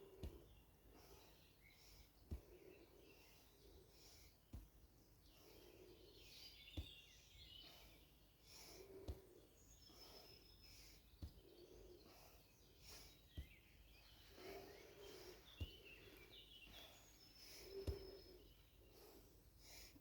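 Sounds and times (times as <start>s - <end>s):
faint birds chirping: 0.0s - 20.0s.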